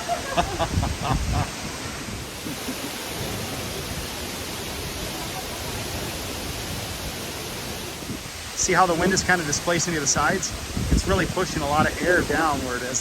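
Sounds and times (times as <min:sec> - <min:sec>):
waterfall rushing: 0:00.0 - 0:13.0
wind blowing on microphone: 0:00.0 - 0:13.0.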